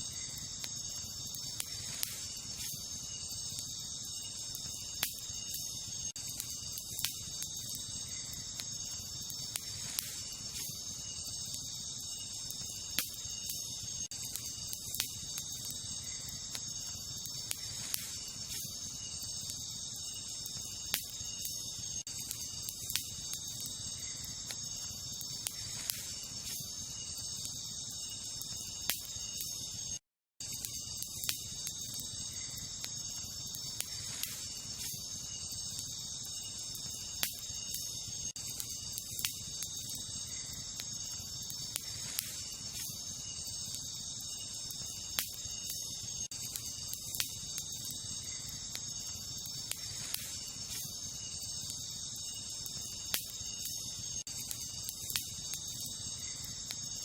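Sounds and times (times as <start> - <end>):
campfire crackling: 0.0 - 57.0
night insects chirping: 0.0 - 57.0.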